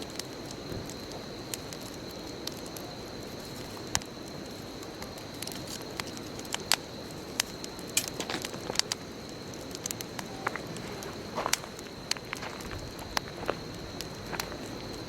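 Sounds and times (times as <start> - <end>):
bonfire crackling and popping: 0.0 - 15.0
rush of flames: 0.0 - 15.0.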